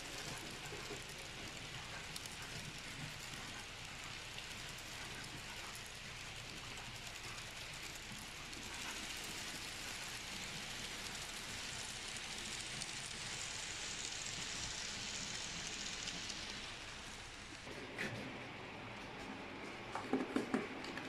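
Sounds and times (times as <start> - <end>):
model train wheels on rails: 0.0 - 18.2, 18.8 - 21.0.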